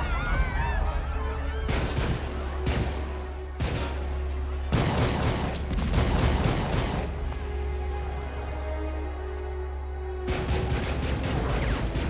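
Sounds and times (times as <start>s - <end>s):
low film score music: 0.0s - 12.0s.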